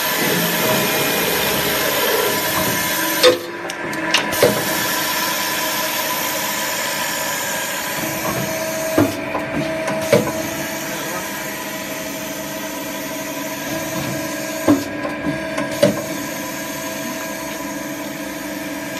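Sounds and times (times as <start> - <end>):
machine motor and pump hum: 0.0 - 18.9.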